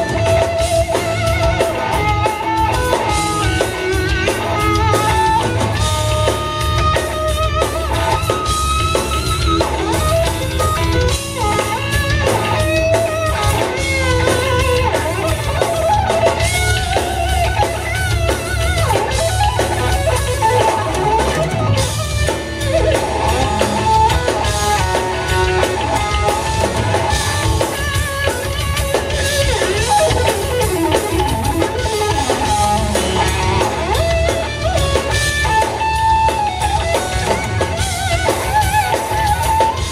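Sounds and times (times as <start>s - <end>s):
drum kit: 0.0s - 39.9s
electric guitar lead melody: 0.0s - 39.9s.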